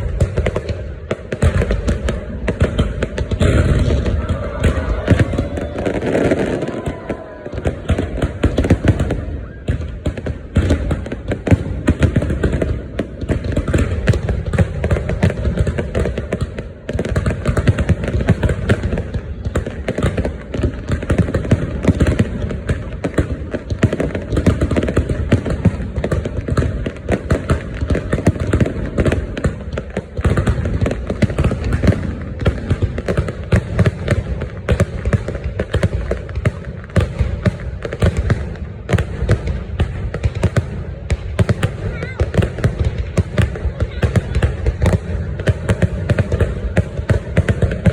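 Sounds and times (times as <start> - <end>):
fireworks cracks and bangs: 0.0 - 47.9.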